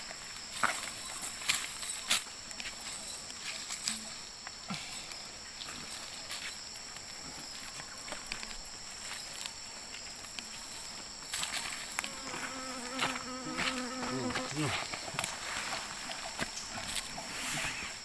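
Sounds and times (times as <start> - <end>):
net and pebbles clicking and rustling: 0.0 - 17.2
insects chorus: 0.0 - 18.0.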